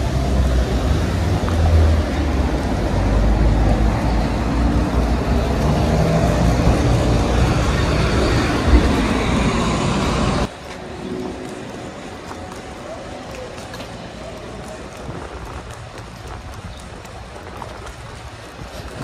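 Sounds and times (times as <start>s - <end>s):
traffic passing: 0.0s - 19.0s
truck engine rumble: 0.0s - 19.0s.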